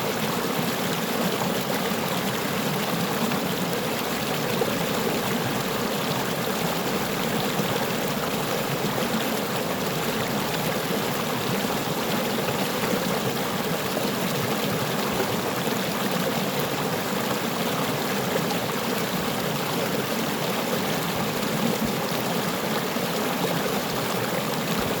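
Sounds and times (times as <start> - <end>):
brook babbling over stones: 0.0 - 25.0.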